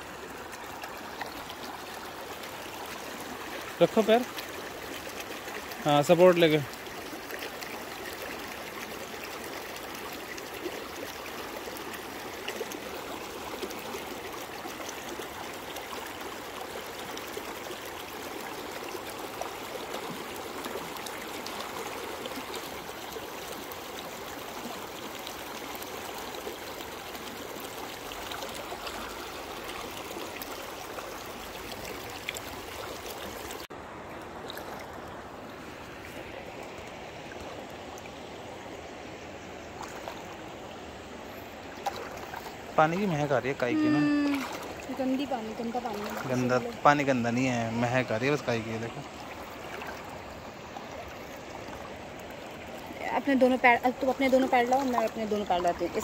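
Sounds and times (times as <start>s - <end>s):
river water gurgling over rocks: 0.0s - 56.0s.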